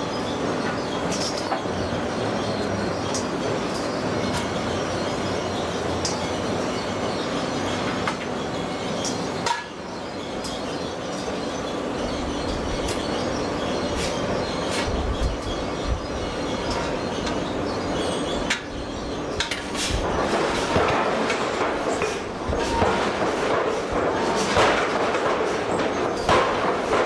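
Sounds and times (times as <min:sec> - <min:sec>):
steady machinery noise: 0:00.0 - 0:27.0.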